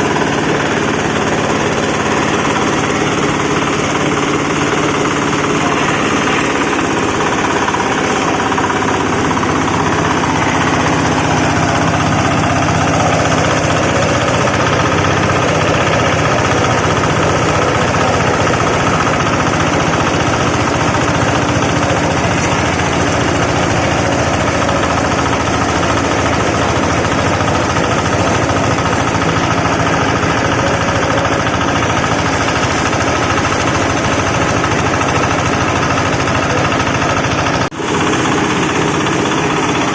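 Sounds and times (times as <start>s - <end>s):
wood-shaving machine droning: 0.0s - 39.9s.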